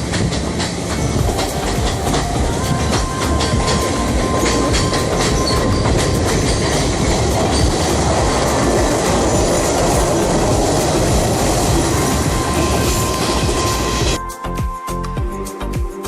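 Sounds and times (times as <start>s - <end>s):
train rumbling on rails: 0.0s - 14.2s
train wheel clicks: 0.0s - 14.2s.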